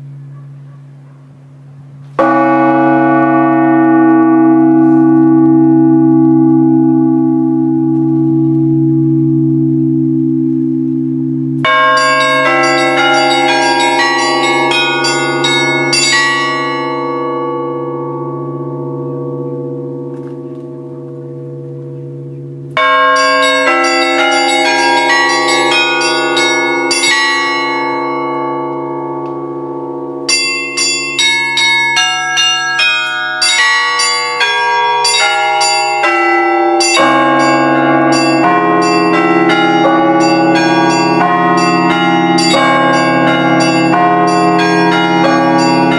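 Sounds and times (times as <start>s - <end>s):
large church bell ringing: 0.0s - 45.9s
small bells rhythmic strokes: 6.1s - 19.0s, 20.1s - 45.9s.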